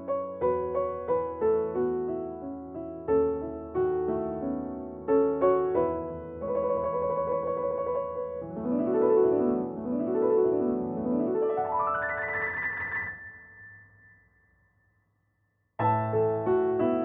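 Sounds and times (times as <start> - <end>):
piano music: 0.0 - 14.4, 15.8 - 17.0.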